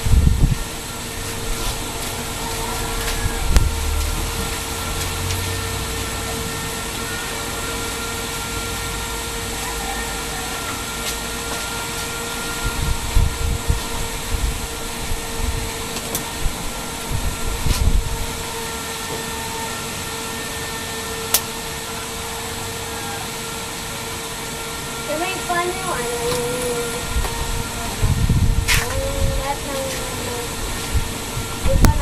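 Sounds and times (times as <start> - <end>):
machine hiss and hum: 0.0 - 32.0.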